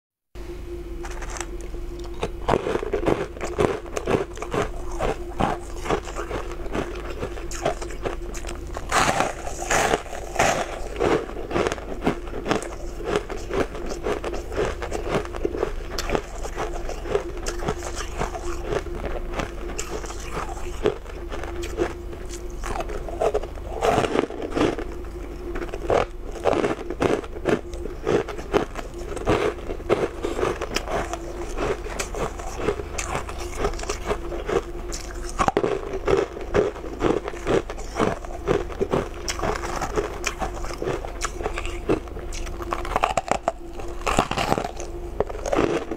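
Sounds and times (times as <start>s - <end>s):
crunchy chewing of shaved ice: 1.0s - 45.9s.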